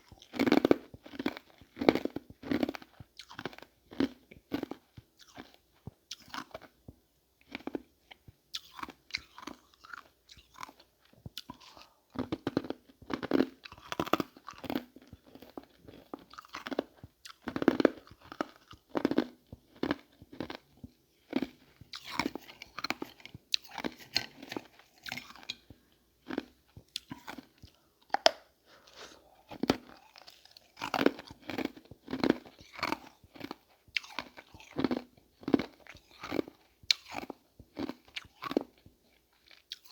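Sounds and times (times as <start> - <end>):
ice crunching being chewed: 0.0 - 6.8, 7.4 - 39.9.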